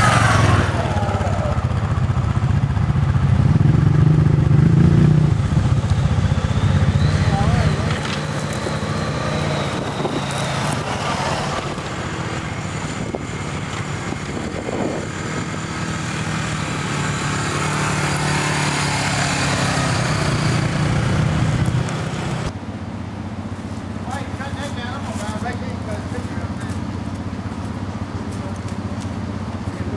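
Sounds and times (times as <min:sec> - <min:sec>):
atv engines running: 0:00.0 - 0:29.9.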